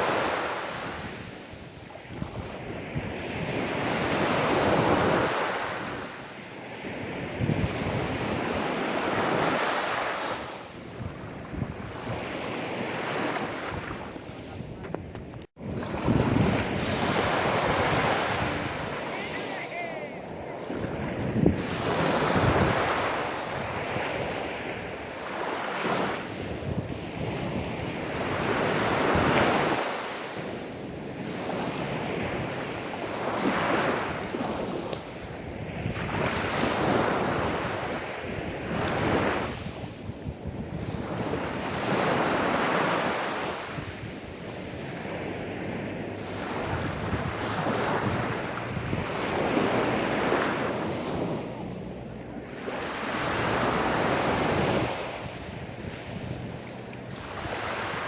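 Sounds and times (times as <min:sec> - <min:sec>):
small waves breaking on beach: 0:00.0 - 0:14.9, 0:15.6 - 0:58.0.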